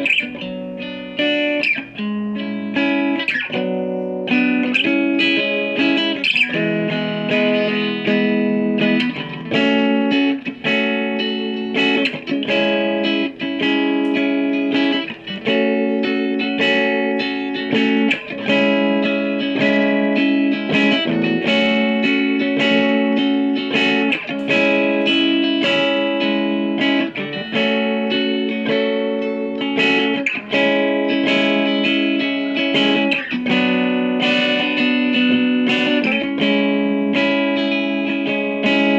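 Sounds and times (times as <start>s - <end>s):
electric guitar chords and notes: 0.0s - 38.9s.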